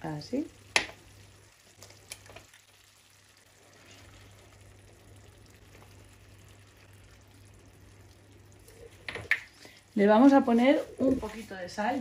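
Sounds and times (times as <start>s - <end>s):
sauce simmering in a pan: 0.0s - 12.0s.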